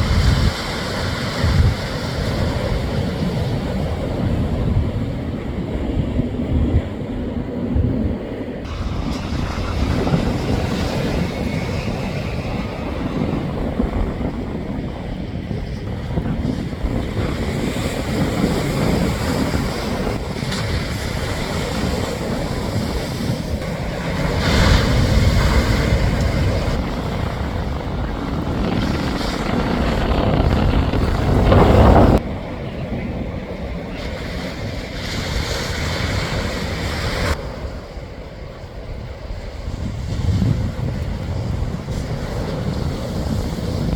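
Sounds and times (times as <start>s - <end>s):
gusty wind buffeting microphone: 0.0s - 43.9s
ocean surf: 0.0s - 43.9s.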